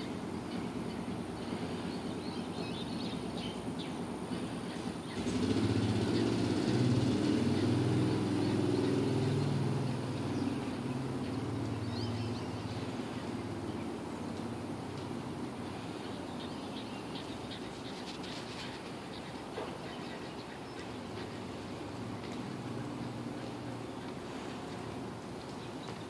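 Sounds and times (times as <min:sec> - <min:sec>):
background hiss: 0:00.0 - 0:26.0
low engine drone: 0:00.0 - 0:26.0.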